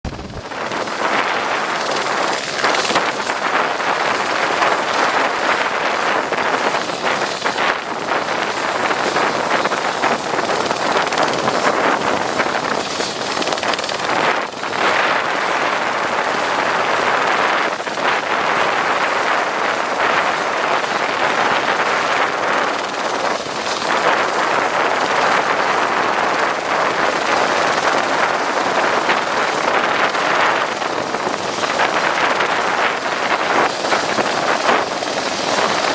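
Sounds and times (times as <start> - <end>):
helicopter rotor and engine: 0.0 - 35.9
high turbine whine: 0.0 - 35.9.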